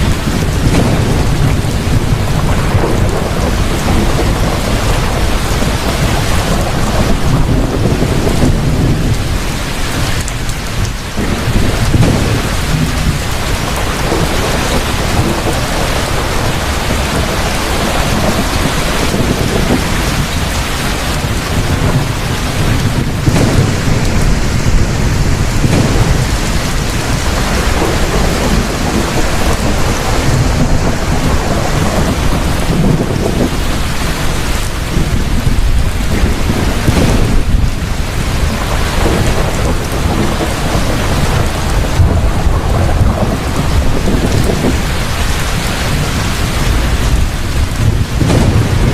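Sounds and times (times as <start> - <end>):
heavy rain falling: 0.0 - 48.9
low thunder rumbling: 0.0 - 48.9
thunder crack: 0.0 - 48.9.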